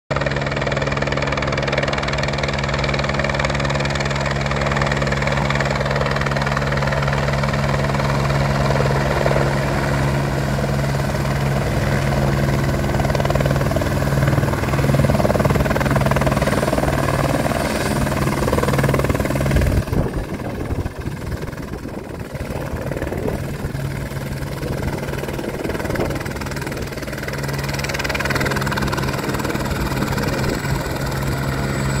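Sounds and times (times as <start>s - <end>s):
helicopter rotor and engine: 0.1s - 32.0s.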